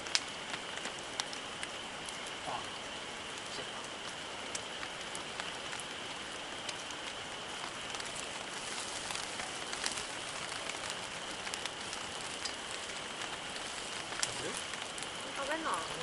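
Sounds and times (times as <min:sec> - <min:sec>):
campfire hissing: 0:00.0 - 0:16.0
fire crackles and pops: 0:00.0 - 0:16.0.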